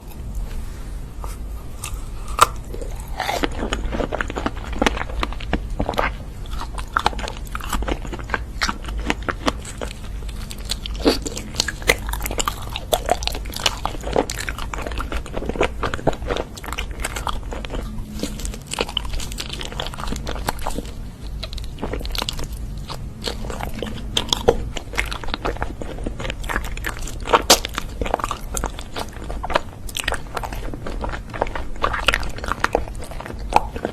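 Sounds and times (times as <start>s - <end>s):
crunchy food chewing: 1.2s - 33.9s.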